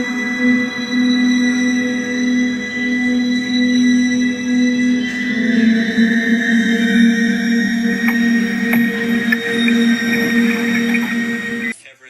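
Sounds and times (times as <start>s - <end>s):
eerie drone of held tones: 0.0s - 11.8s.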